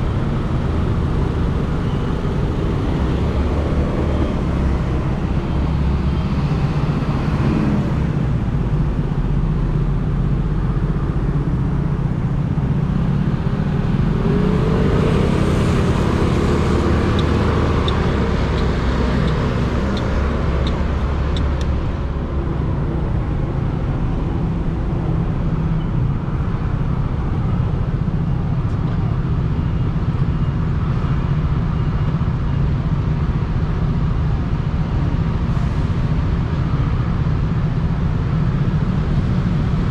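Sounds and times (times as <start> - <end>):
wind and road noise rumble: 0.0 - 39.9.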